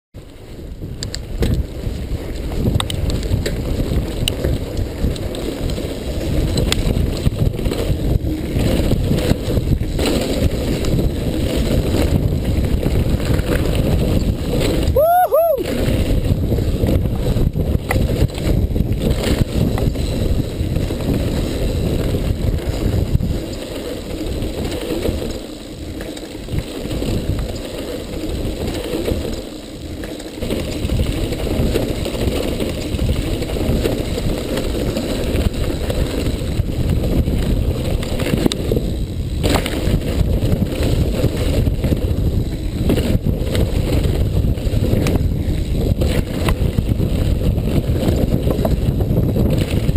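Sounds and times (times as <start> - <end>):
bike rattling and clattering: 0.2 - 49.9
bike tyres rumbling over rough ground: 0.2 - 49.9
wind buffeting microphone: 0.2 - 49.9.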